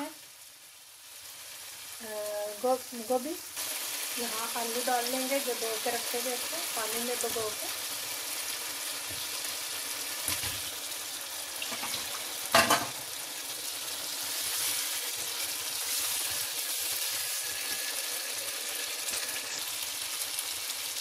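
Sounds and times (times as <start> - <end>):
masala sizzling in a pan: 0.0 - 21.0.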